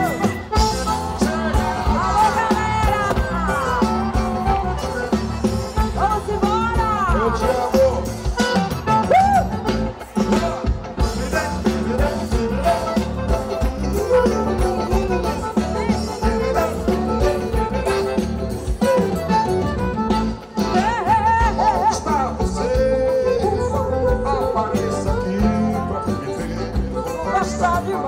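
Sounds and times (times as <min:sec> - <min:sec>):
person singing: 0:00.0 - 0:18.2, 0:20.6 - 0:28.0
accordion: 0:00.0 - 0:28.0
bass drum: 0:00.0 - 0:28.0
drum kit: 0:00.0 - 0:28.0
electric bass: 0:00.0 - 0:28.0
guitar: 0:00.0 - 0:28.0.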